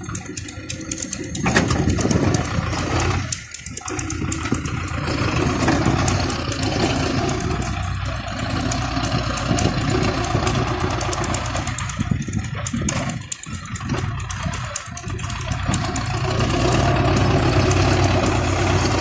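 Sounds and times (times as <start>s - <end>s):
tractor diesel engine clattering: 0.0s - 19.0s.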